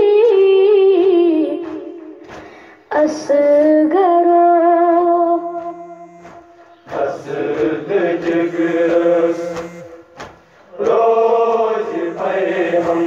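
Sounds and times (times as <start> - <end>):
chorus of voices: 0.0 - 13.0.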